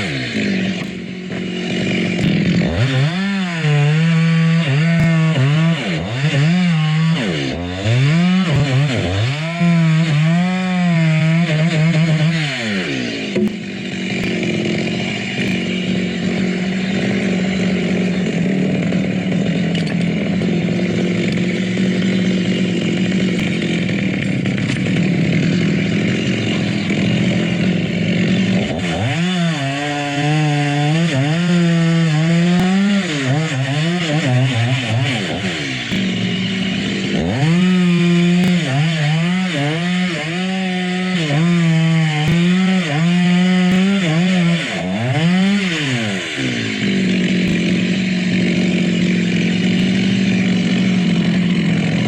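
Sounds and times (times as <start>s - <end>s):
chainsaw revving and cutting wood: 0.0s - 52.0s.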